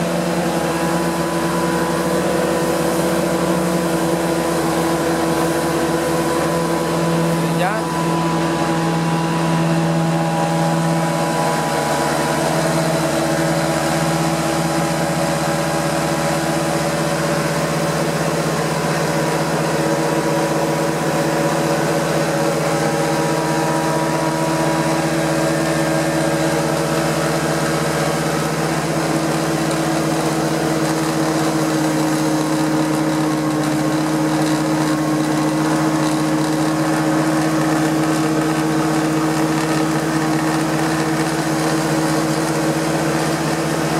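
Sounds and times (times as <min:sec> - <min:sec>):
carpet cleaner engine drone: 0:00.0 - 0:43.9.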